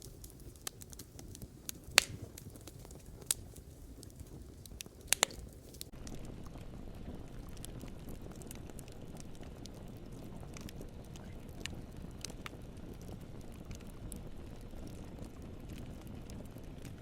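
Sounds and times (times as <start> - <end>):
campfire crackles and pops: 0.0 - 17.0
rush of campfire flames: 0.0 - 17.0.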